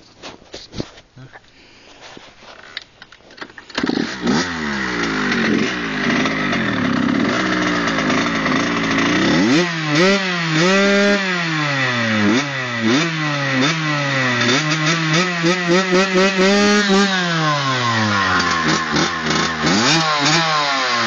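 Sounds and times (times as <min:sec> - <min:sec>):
two-stroke engine idling and revving: 0:03.7 - 0:21.0.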